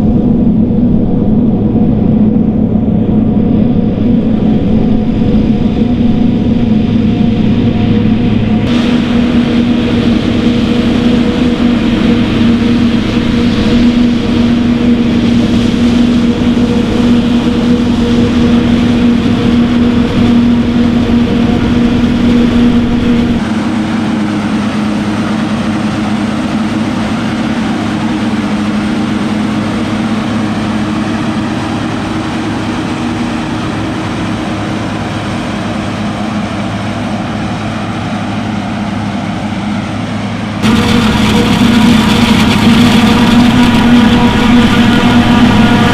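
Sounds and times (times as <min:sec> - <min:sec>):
heavy farm machinery engines: 0:00.0 - 0:45.9.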